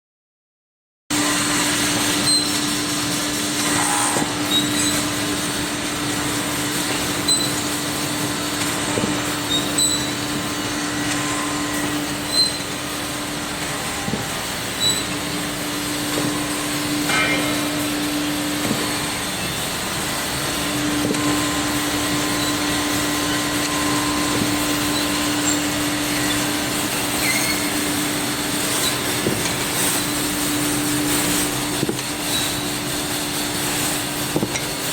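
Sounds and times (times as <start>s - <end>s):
drilling and sanding machine hum: 1.2s - 34.9s.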